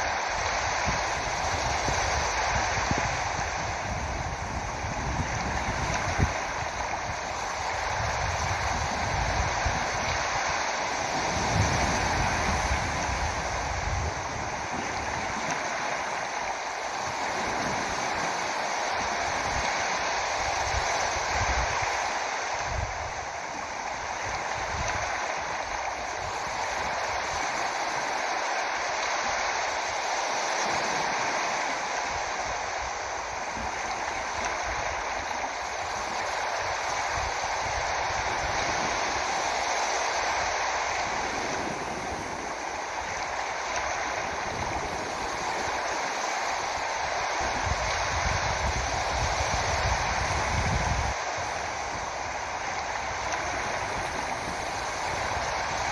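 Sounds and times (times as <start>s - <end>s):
water rushing: 0.0s - 55.9s
wind rumble on microphone: 0.0s - 55.9s.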